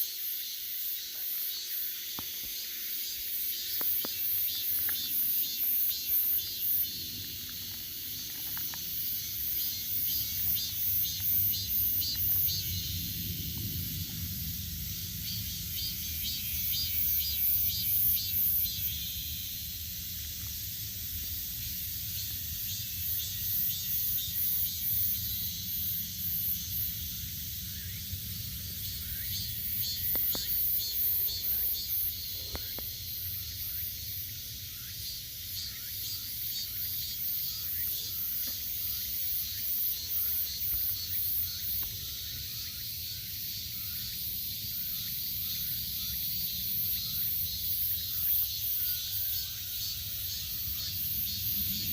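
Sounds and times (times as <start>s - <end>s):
cicadas singing: 0.0s - 51.9s.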